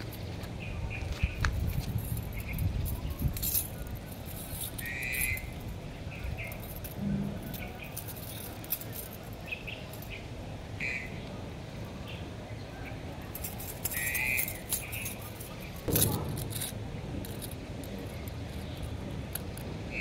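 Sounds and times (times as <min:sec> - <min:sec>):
wire toy scraping on concrete: 0:00.0 - 0:10.3, 0:13.1 - 0:20.0.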